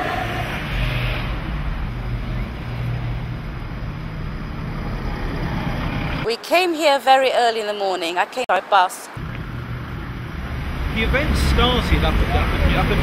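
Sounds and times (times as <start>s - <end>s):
passing vehicles rumbling: 0.0s - 6.3s, 8.6s - 13.0s.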